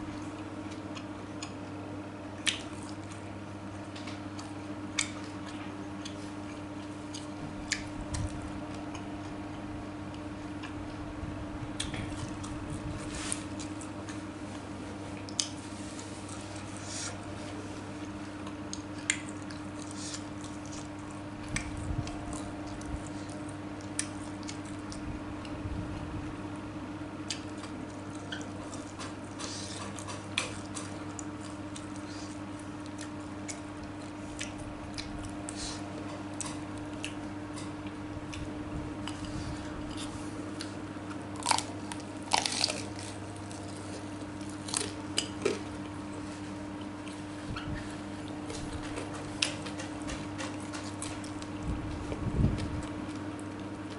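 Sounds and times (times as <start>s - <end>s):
chewing and wet mouth sounds: 0.1s - 9.4s, 11.7s - 26.1s, 27.2s - 53.9s.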